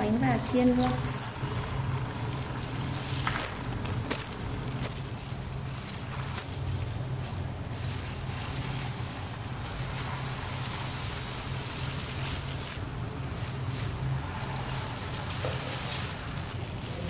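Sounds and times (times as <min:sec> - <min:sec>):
cakes sizzling in hot oil: 0:00.0 - 0:17.0
low steady hum: 0:00.0 - 0:17.0.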